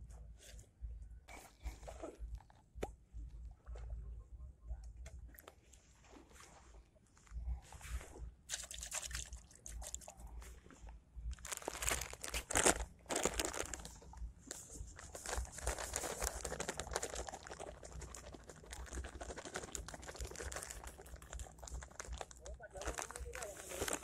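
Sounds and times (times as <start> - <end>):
crinkling and crackling: 0.0 - 24.0.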